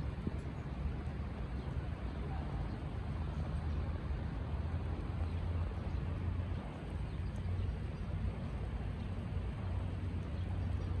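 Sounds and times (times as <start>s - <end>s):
light rain on trees: 0.0s - 11.0s
steady low rumble: 0.0s - 11.0s.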